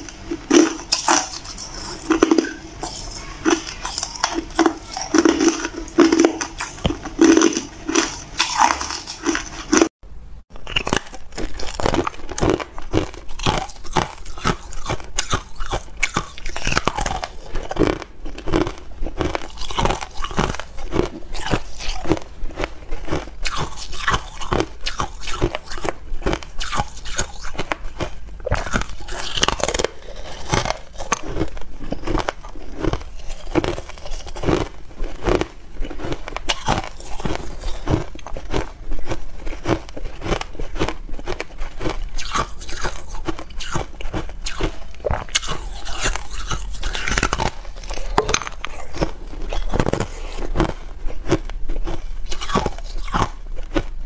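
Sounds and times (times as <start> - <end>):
ice crunched between teeth: 10.6 - 54.0.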